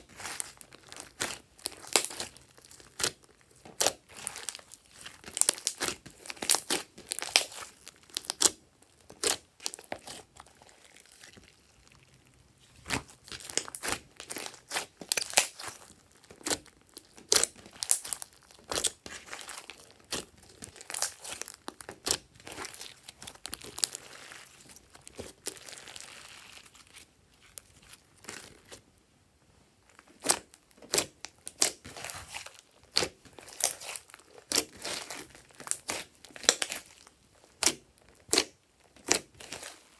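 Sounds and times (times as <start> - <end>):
hands squishing sticky slime: 0.0 - 28.8, 29.9 - 39.9.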